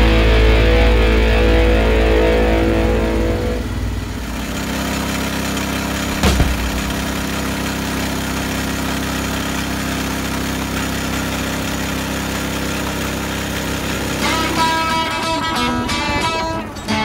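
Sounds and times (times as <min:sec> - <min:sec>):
sawmill engine running: 0:00.0 - 0:16.8.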